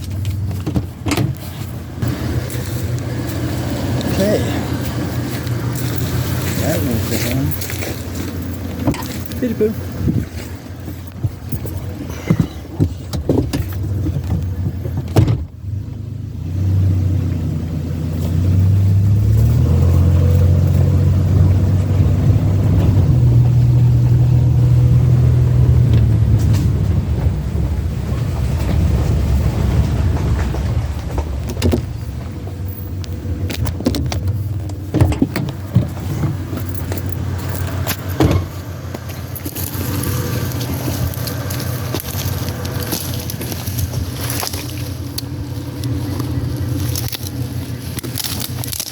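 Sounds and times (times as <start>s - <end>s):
vehicle engine hum: 0.0s - 48.9s.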